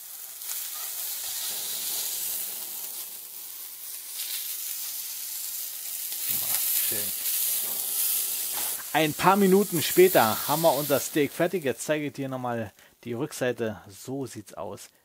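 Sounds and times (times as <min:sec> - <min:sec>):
steak sizzling in a hot pan: 0:00.0 - 0:12.1.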